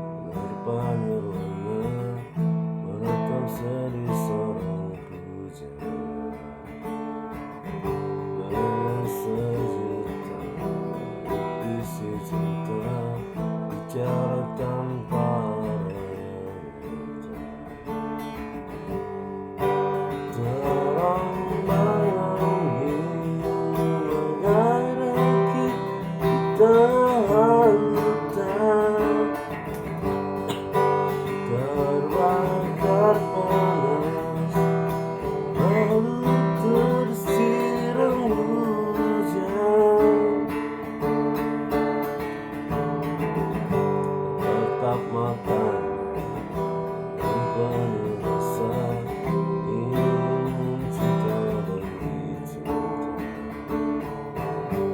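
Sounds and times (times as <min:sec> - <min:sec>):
sliding guitar melody: 0:00.0 - 0:54.9
strummed acoustic guitar: 0:00.0 - 0:54.9.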